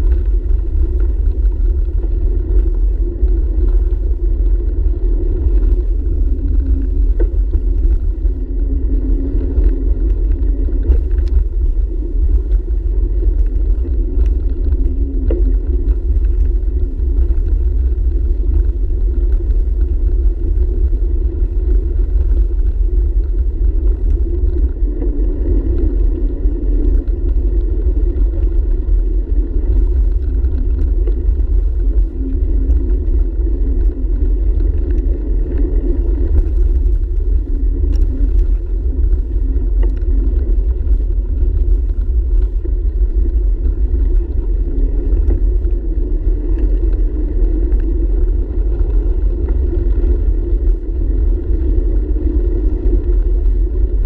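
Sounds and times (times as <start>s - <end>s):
bicycle rolling over dirt: 0.0s - 54.0s
small clicks and rattles: 0.0s - 54.0s
wind on microphone: 0.0s - 54.0s.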